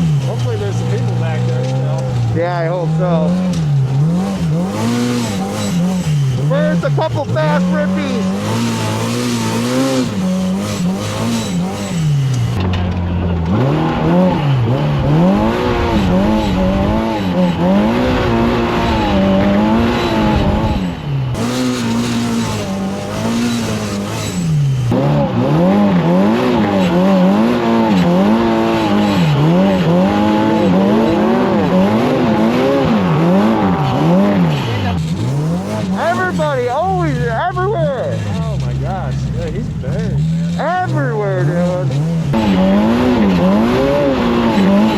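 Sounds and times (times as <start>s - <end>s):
engine revving: 0.0s - 44.9s.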